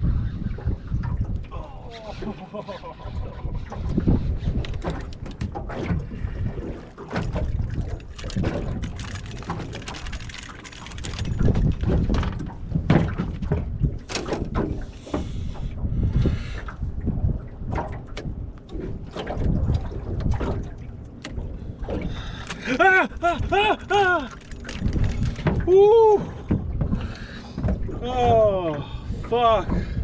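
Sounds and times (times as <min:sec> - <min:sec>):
water lapping against boat: 0:00.0 - 0:30.0
wind buffeting microphone: 0:00.0 - 0:30.0
knocks and splashes: 0:03.4 - 0:15.7, 0:16.6 - 0:30.0.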